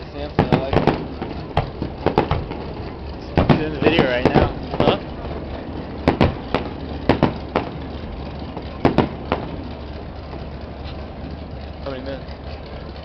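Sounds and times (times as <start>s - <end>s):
fireworks bangs: 0.0s - 12.9s.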